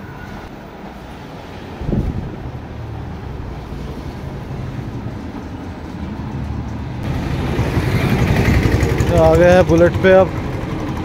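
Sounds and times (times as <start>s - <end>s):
vehicle engine rumble: 1.8s - 11.0s.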